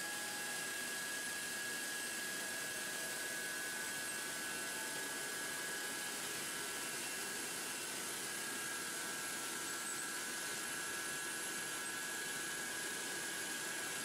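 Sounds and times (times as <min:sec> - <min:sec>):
constant high whine: 0:00.0 - 0:14.0
machinery hum and hiss: 0:00.0 - 0:14.0.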